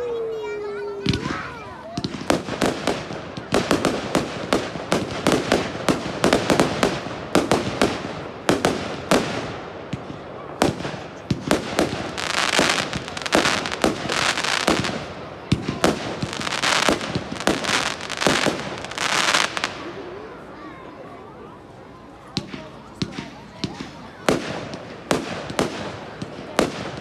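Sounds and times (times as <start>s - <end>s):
fireworks bangs: 0.0s - 20.5s, 22.3s - 27.0s
dense fireworks crackling: 0.0s - 27.0s.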